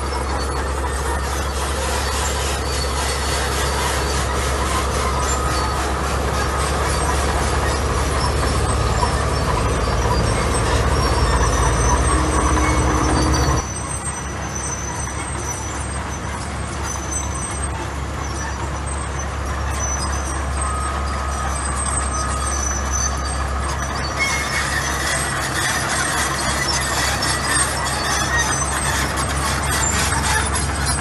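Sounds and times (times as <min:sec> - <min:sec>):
diesel engine drone: 0:00.0 - 0:31.0
high metallic squeals: 0:00.0 - 0:31.0.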